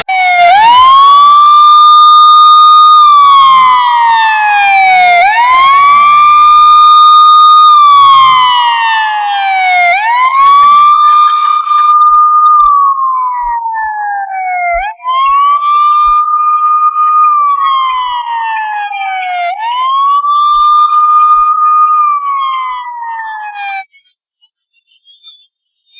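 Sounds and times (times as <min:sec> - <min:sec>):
police siren wailing: 0:00.0 - 0:23.9.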